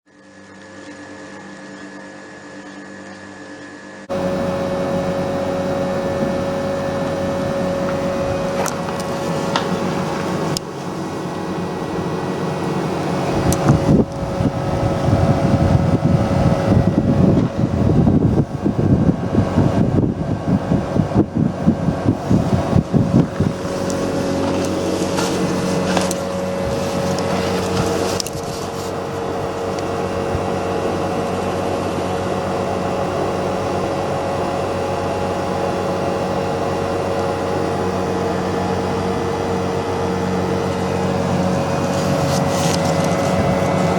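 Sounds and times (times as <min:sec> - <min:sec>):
compressor hum: 0:00.1 - 0:43.9
condenser fan rushing: 0:00.1 - 0:43.9.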